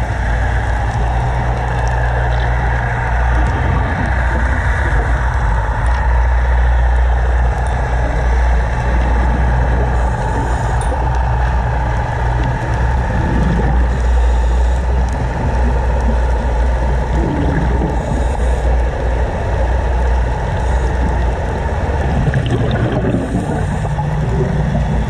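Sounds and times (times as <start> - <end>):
underwater rumble and hiss: 0.0 - 25.0.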